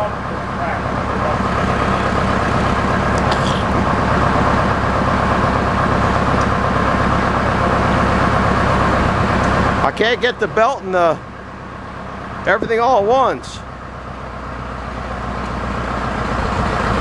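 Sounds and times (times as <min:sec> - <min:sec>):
tractor engine running hard: 0:00.0 - 0:17.0.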